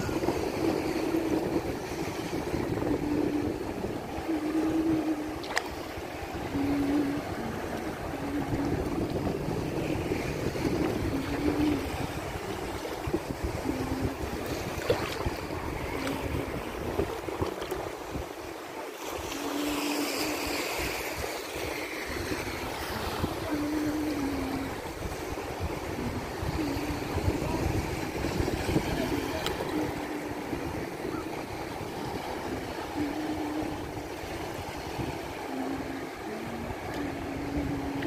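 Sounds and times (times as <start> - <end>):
sea water lapping: 0.0 - 38.0
wind buffeting microphone: 0.0 - 38.0.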